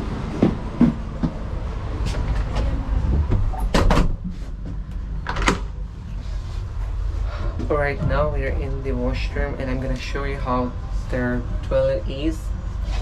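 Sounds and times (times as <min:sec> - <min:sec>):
ferry low rumble: 0:00.0 - 0:13.0.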